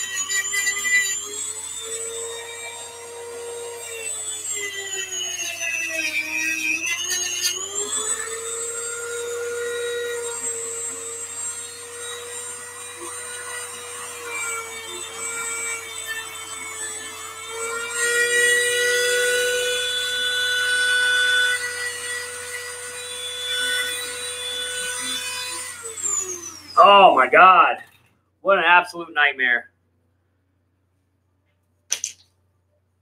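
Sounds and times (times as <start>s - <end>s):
rotary tool whining: 0.0s - 27.2s.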